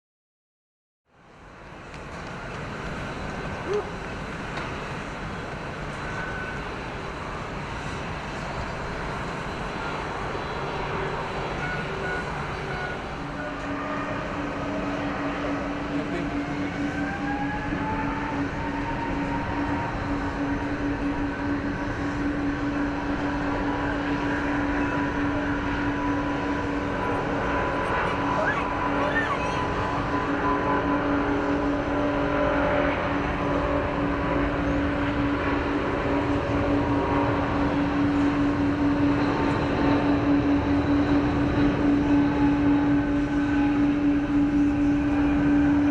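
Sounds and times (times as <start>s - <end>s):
jet engines running: 1.2s - 45.9s
whine rising in pitch: 2.2s - 45.9s.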